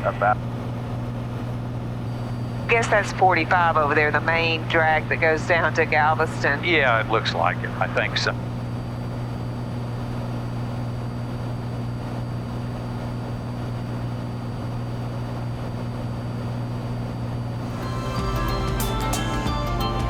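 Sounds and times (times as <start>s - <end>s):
airplane engine droning: 0.0s - 20.0s.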